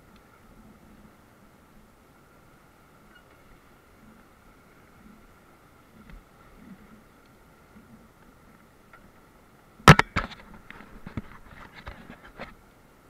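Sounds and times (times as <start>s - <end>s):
faint rushing river: 0.0s - 13.0s.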